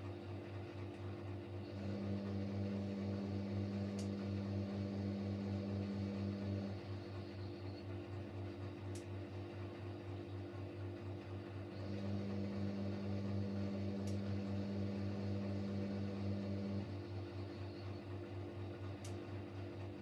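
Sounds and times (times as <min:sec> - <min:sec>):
washing machine low hum: 0:00.0 - 0:20.0.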